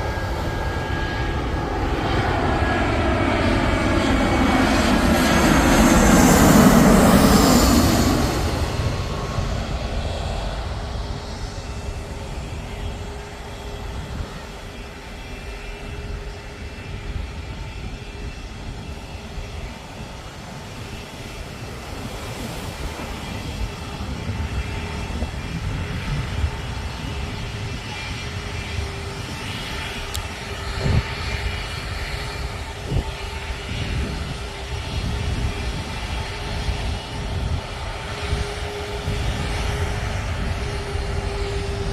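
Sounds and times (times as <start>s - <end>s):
jet engines rumbling: 0.0s - 41.9s.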